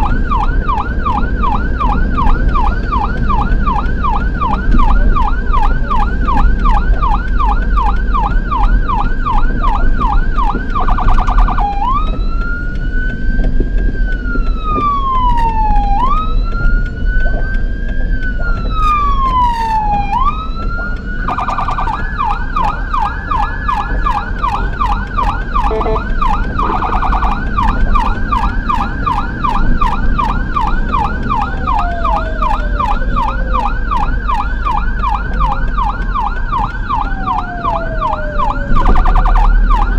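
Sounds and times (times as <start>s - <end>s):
ambulance siren: 0.0s - 39.9s
road and engine rumble: 0.0s - 39.9s.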